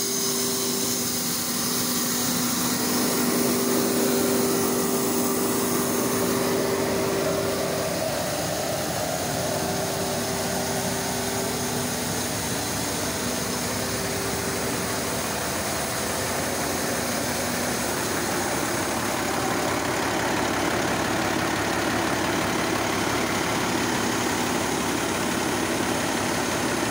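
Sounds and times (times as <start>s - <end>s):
tractor diesel engine idling: 0.0s - 26.9s.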